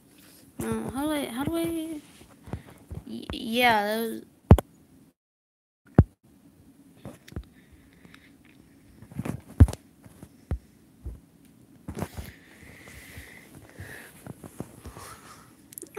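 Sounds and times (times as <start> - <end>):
faint high hum: 0.0 - 5.2, 5.9 - 15.9.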